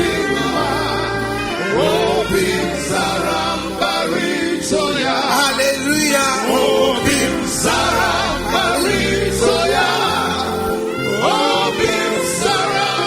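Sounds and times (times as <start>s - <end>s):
band accompaniment: 0.0s - 13.0s
choir singing: 0.0s - 13.0s
steady bass line: 0.0s - 13.0s.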